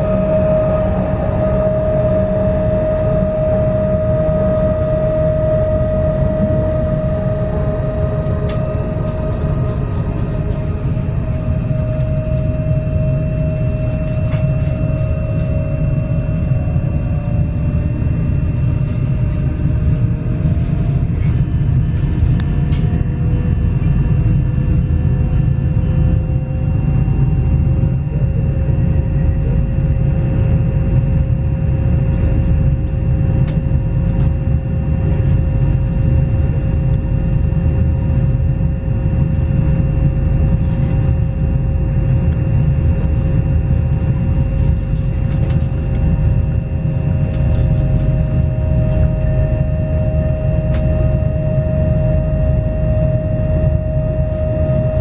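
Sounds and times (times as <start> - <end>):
inverter whining tones: 0.0 - 55.0
low electrical hum: 0.0 - 55.0.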